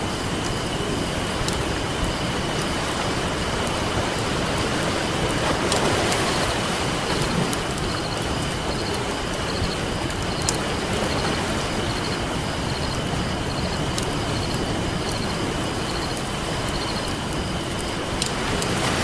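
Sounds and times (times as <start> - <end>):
campfire crackling and popping: 0.0 - 19.0
ocean surf: 0.0 - 19.0.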